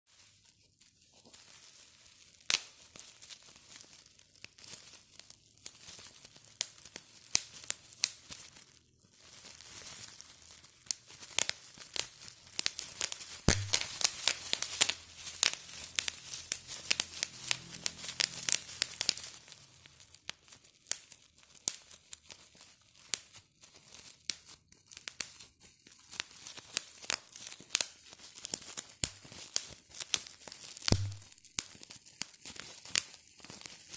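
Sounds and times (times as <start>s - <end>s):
bubble wrap popping: 0.1s - 33.9s
plastic sheet crinkling: 0.1s - 33.9s.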